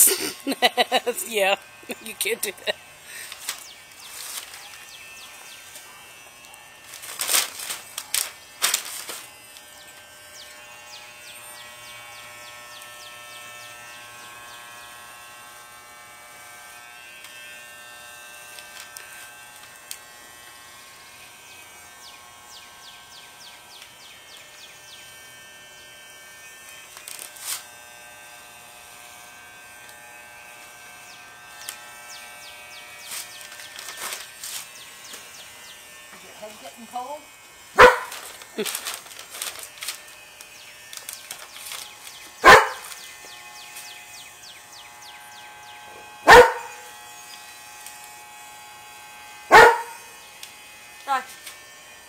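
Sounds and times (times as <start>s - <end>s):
electric hair clippers running: 0.0s - 52.0s.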